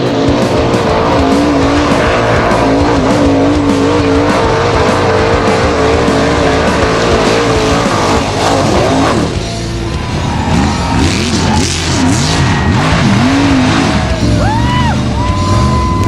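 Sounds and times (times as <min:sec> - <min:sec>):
race car engine high revs: 0:00.0 - 0:16.0.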